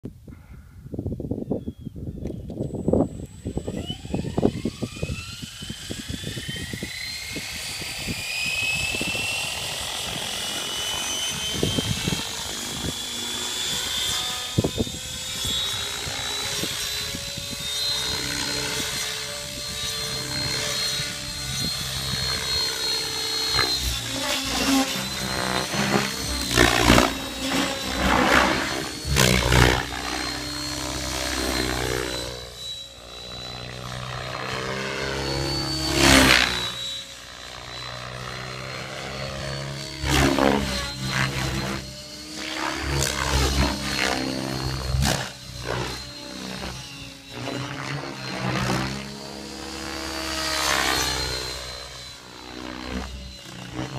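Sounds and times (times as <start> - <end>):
model helicopter rotor whine: 0.3 - 53.9.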